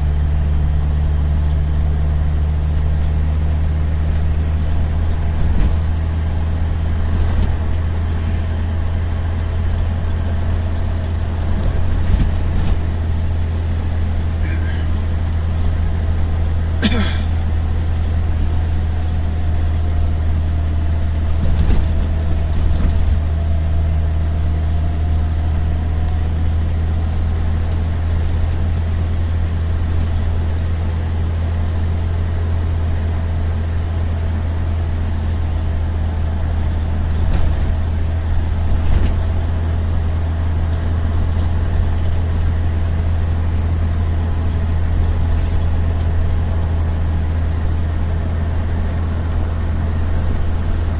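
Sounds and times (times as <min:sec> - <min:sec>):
vehicle engine and road drone: 0:00.0 - 0:50.9.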